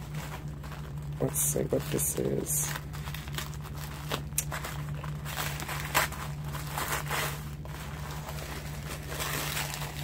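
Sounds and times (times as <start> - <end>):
wrapping rustling and crinkling: 0.0 - 10.0.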